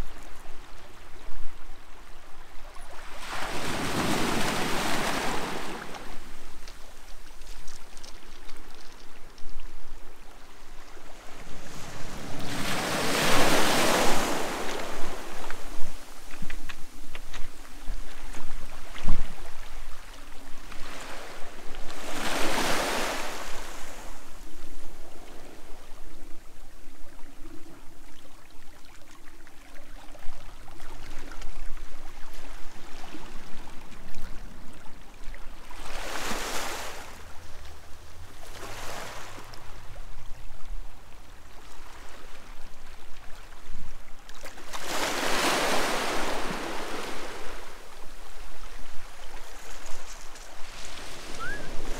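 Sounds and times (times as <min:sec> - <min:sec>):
sea waves breaking on shore: 0:00.0 - 0:51.9.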